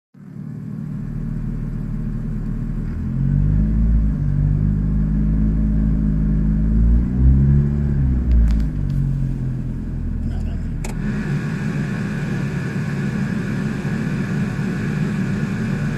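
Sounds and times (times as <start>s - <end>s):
car engine running: 0.2s - 15.9s.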